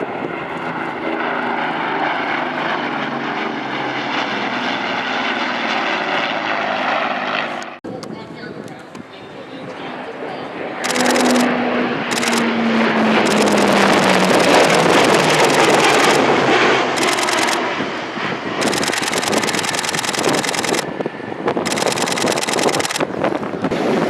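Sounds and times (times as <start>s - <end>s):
turboprop aircraft passing: 0.0s - 24.0s.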